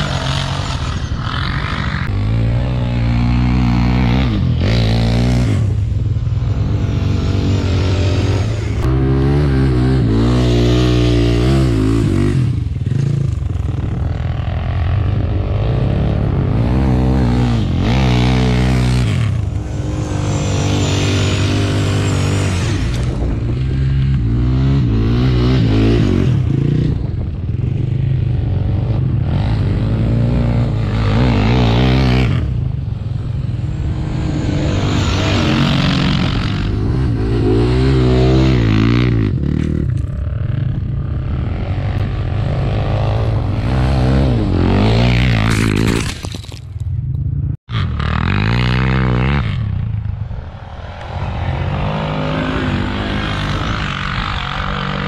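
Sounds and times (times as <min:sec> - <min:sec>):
quad bike engine revving: 0:00.0 - 0:46.6, 0:47.7 - 0:49.9, 0:51.0 - 0:55.0.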